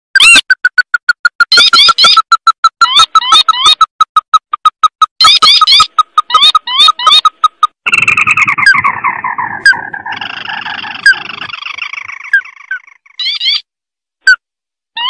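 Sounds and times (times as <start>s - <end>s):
bird call trilling: 0.2s - 13.7s.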